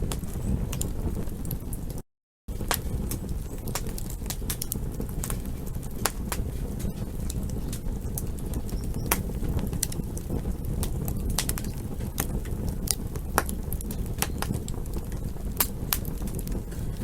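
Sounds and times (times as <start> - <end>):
flame rushing: 0.0 - 17.0
wood crackling and popping: 0.0 - 17.0.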